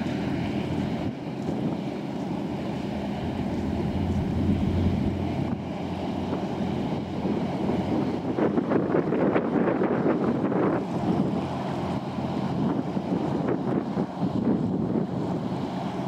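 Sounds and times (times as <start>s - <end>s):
ferry engine drone: 0.0s - 16.0s
water rushing along hull: 0.0s - 16.0s
wind buffeting microphone: 0.0s - 16.0s.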